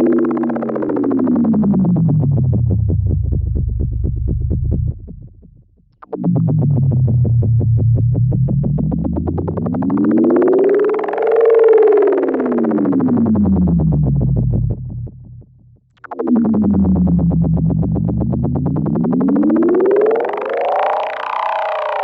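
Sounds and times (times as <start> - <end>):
buzzy tone sliding up in pitch: 0.0 - 2.9, 6.0 - 15.4, 16.0 - 22.0
buzzy electronic tone: 0.0 - 22.0.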